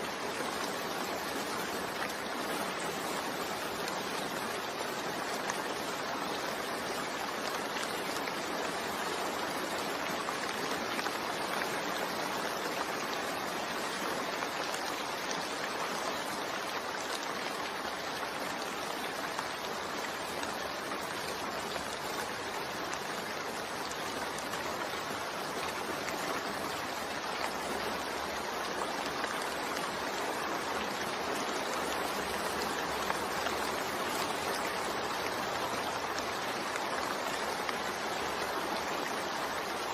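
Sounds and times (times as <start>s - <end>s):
rain splashing on hard surfaces: 0.0s - 39.9s.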